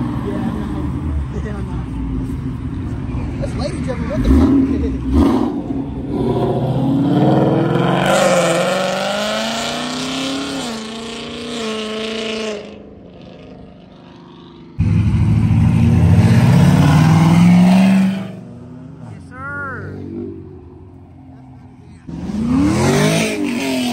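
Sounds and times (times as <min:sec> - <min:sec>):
car engine accelerating: 0:00.0 - 0:23.9
car engine revving: 0:02.6 - 0:23.9.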